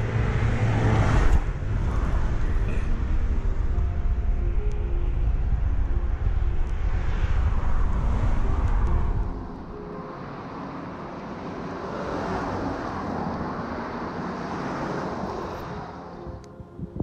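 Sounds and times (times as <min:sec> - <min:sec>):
motor vehicle running: 0:00.0 - 0:16.5
road noise: 0:00.0 - 0:17.0.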